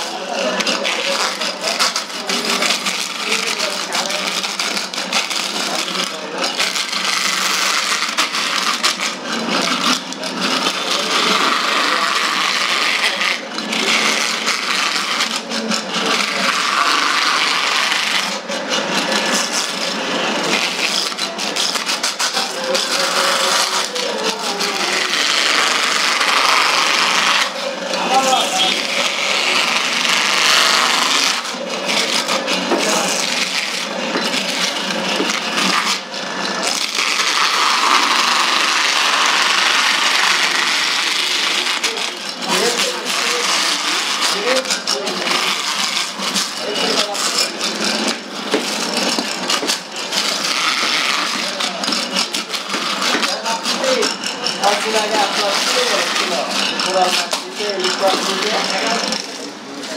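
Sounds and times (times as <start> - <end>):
fish scaler scraping scales: 0.0 - 59.9.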